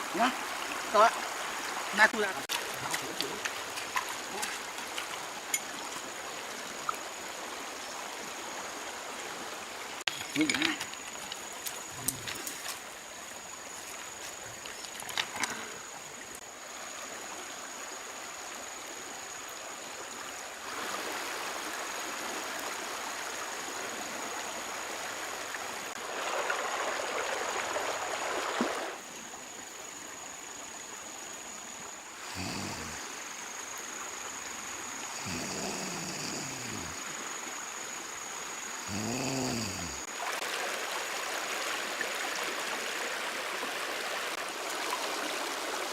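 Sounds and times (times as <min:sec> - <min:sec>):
stream water running: 0:00.0 - 0:45.9.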